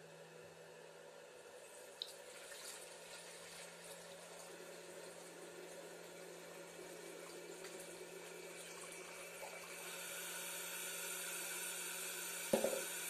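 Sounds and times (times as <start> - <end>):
cream separator humming: 0.0 - 13.0
milk pouring and trickling: 1.8 - 13.0.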